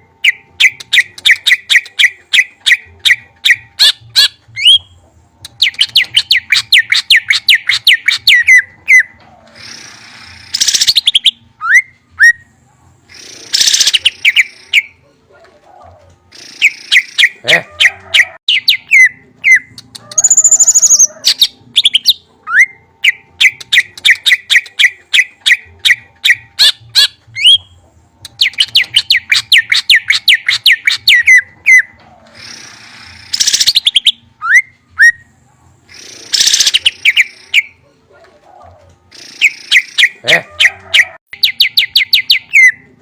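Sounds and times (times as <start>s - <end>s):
songbird chirping: 0.2s - 42.9s.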